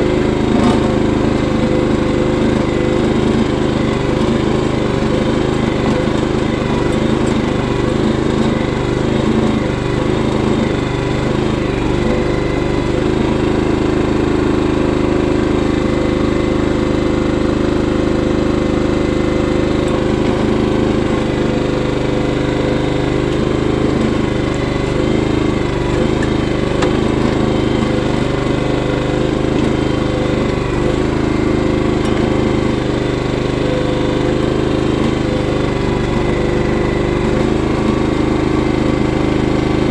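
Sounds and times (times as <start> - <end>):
bucket digging dirt: 0.0 - 14.5, 19.2 - 39.9
digging machine engine running: 0.0 - 39.9.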